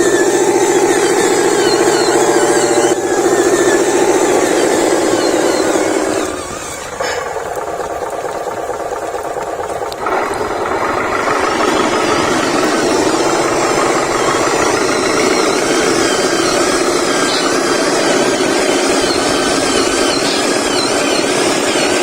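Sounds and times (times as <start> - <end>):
model truck motor whirring: 0.0 - 22.0.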